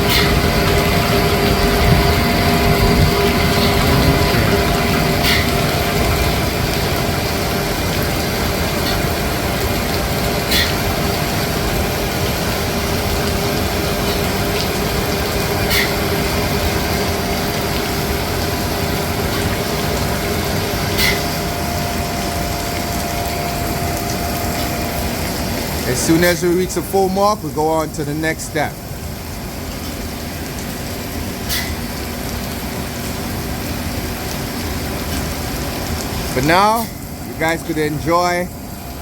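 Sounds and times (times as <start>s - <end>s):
rain hiss: 0.0s - 39.0s
steady machine drone: 0.0s - 39.0s.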